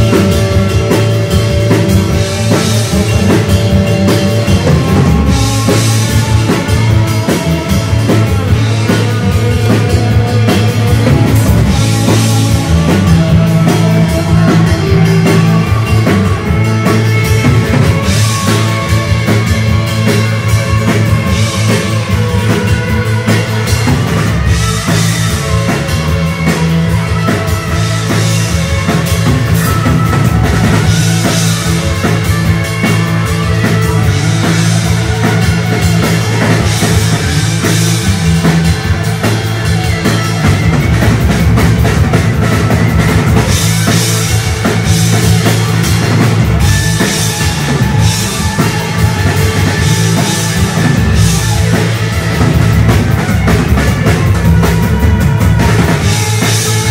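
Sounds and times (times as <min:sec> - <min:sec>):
bass guitar: 0:00.0 - 0:56.9
drum kit: 0:00.0 - 0:56.9
electric guitar: 0:00.0 - 0:56.9.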